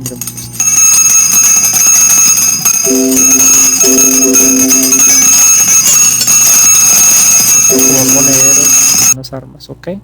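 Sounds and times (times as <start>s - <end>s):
low held tones: 0.0s - 9.2s
metallic bell-like ringing: 0.0s - 9.2s.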